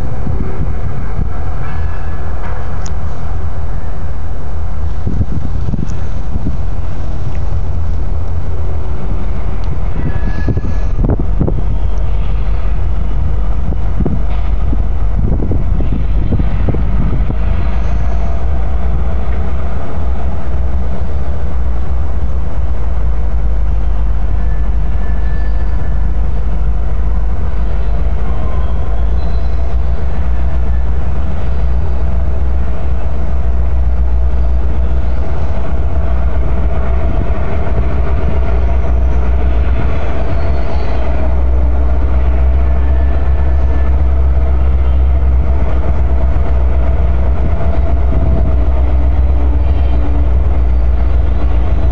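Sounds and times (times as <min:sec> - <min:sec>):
diesel locomotive engines humming: 0:00.0 - 0:51.9
wind buffeting microphone: 0:00.0 - 0:51.9.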